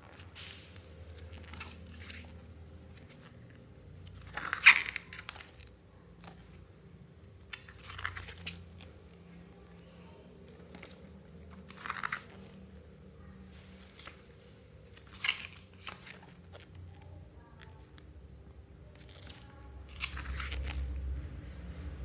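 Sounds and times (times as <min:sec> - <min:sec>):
book pages turning: 0:00.0 - 0:22.0.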